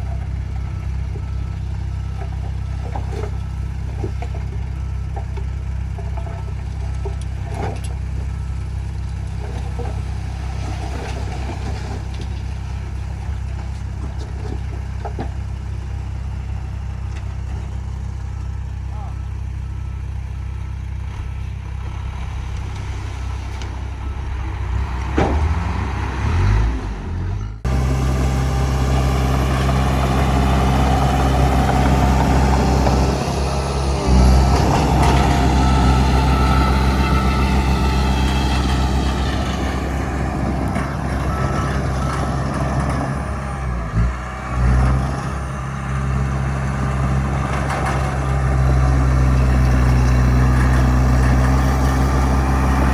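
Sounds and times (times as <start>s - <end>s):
heavy diesel engines humming: 0.0s - 52.9s.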